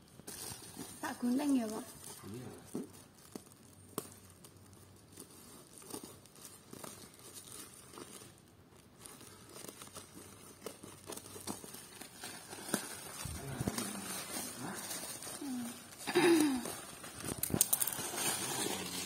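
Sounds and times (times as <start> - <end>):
plastic crinkling and tearing: 0.0 - 19.0.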